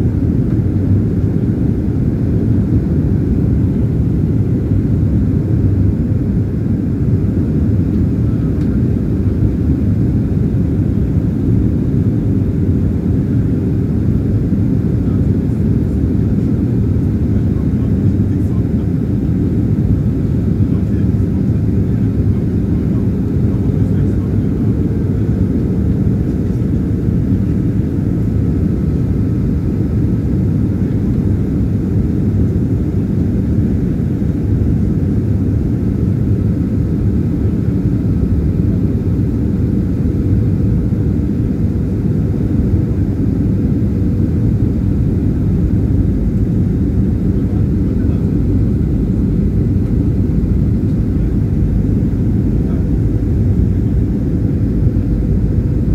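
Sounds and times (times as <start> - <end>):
faint steady whine: 0.0 - 55.9
jet engine and airflow rumble in cabin: 0.0 - 55.9.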